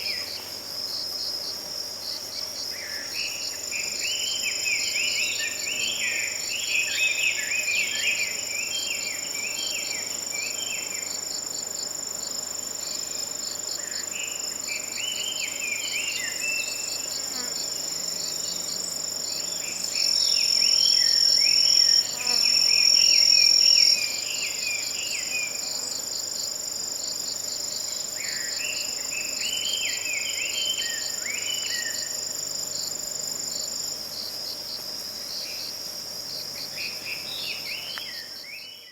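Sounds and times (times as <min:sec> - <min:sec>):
insects chirping: 0:00.0 - 0:38.9
insects trilling: 0:00.0 - 0:38.9.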